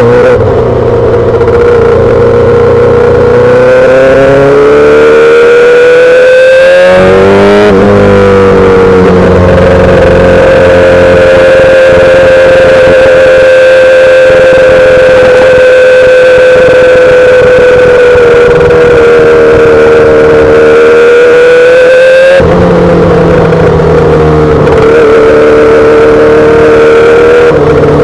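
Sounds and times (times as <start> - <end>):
motorcycle exhaust running high: 0.0 - 28.0.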